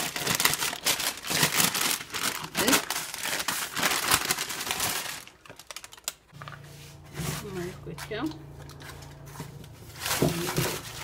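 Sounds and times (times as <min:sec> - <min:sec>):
baking paper crinkling: 0:00.0 - 0:11.0.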